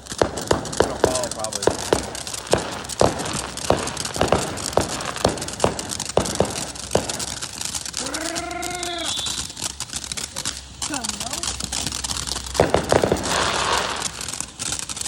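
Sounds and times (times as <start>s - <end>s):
firework crackling pops: 0.0s - 15.0s.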